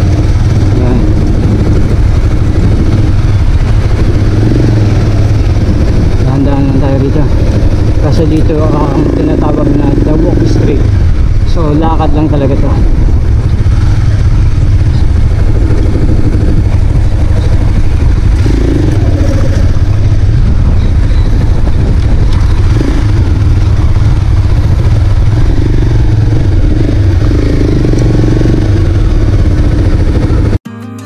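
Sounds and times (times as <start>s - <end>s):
motorcycle engine running: 0.0s - 30.6s
wind rumble on microphone: 0.0s - 30.6s.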